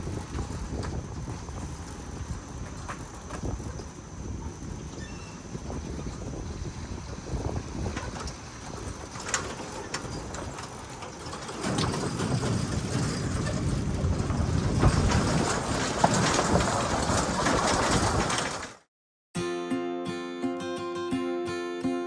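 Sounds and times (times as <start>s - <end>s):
rattles and clicks: 0.0s - 18.8s
vehicle road rumble: 0.0s - 18.9s.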